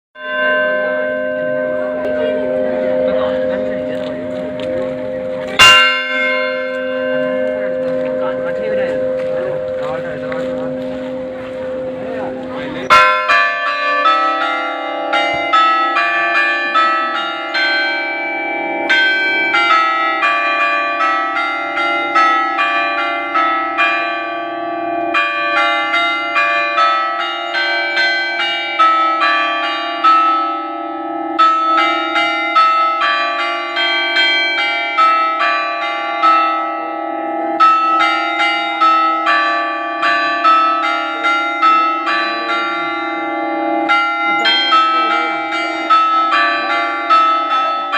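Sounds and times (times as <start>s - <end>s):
church bells ringing: 0.2s - 47.9s.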